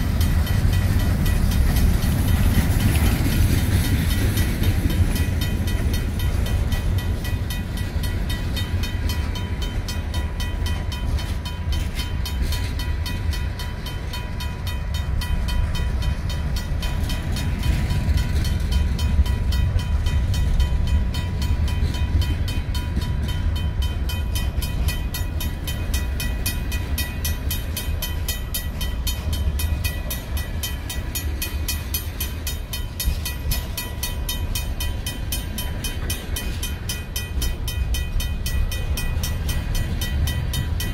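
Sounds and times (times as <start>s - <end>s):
crossing warning bell ringing: 0.0s - 40.9s
freight train rumbling past: 0.0s - 40.9s.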